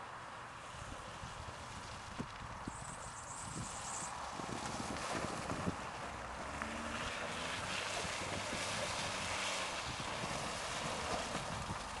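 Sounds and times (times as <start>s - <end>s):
faint car engine: 0.0s - 12.0s
wind buffeting microphone: 0.8s - 6.2s, 7.4s - 12.0s.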